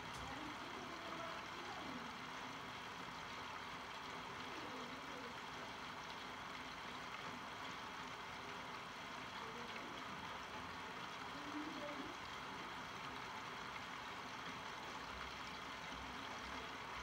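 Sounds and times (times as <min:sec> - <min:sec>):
rain on a wet street: 0:00.0 - 0:17.0.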